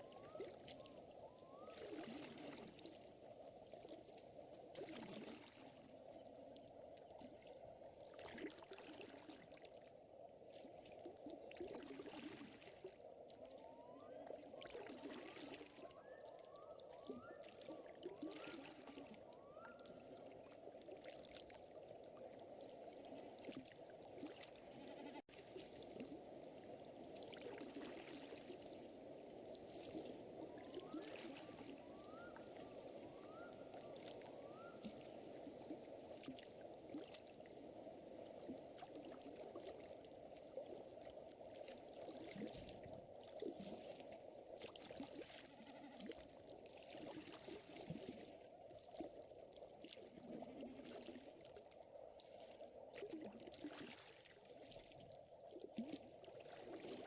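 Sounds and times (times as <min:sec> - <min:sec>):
water-like murmur: 0:00.0 - 0:04.1, 0:10.5 - 0:57.0.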